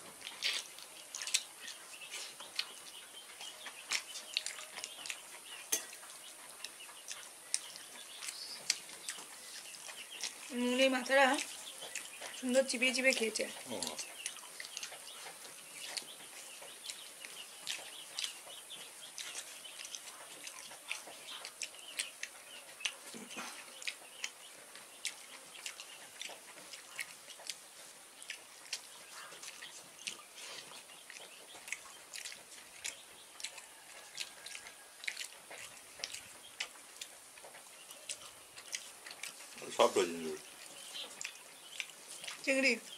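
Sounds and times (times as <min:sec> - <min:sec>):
wet chewing clicks: 0:00.0 - 0:42.9.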